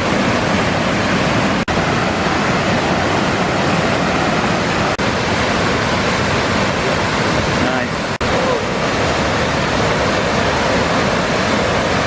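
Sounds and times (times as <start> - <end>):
rush of flowing water: 0.0 - 12.0.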